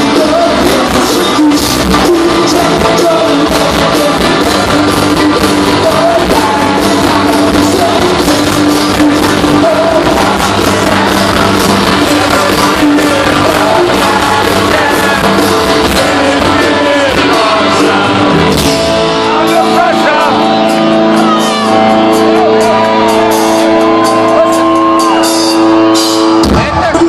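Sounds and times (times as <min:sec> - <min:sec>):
lead vocal singing: 0:00.0 - 0:24.0
live rock band playing: 0:00.0 - 0:27.0.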